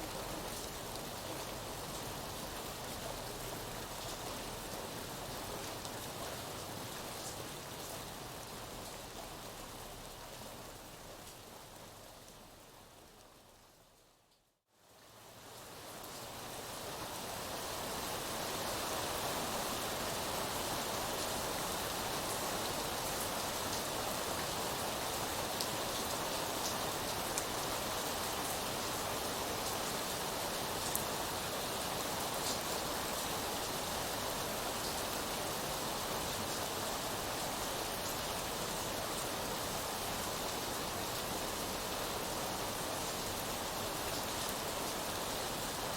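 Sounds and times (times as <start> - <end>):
steady rainfall hiss: 0.0 - 45.9.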